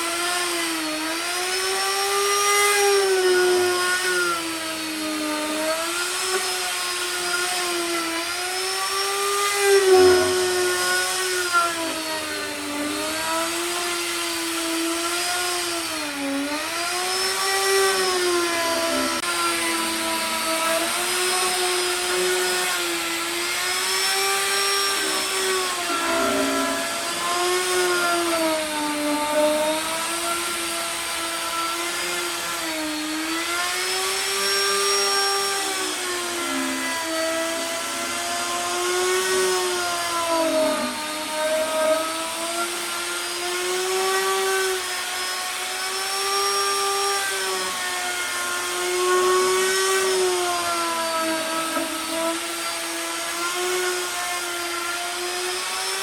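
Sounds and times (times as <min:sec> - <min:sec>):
power tool motor whining: 0:00.0 - 0:56.0.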